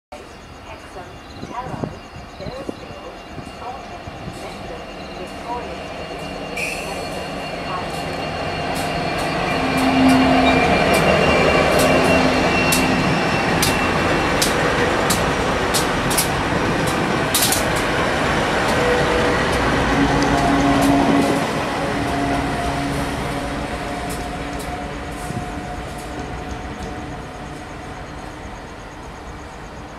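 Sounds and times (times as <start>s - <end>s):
locomotive engines humming: 0.2s - 29.9s
train wheels clicking on rails: 1.4s - 29.0s.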